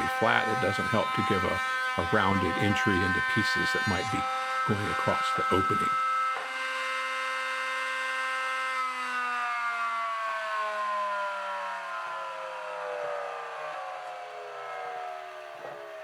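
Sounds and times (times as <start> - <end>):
router motor whine: 0.0 - 16.0.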